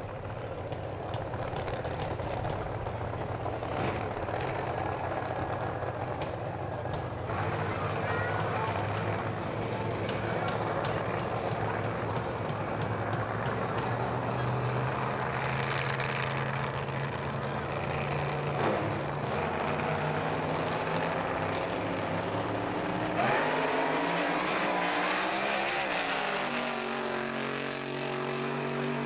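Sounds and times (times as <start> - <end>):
drag racing cars engines revving: 0.0 - 29.0.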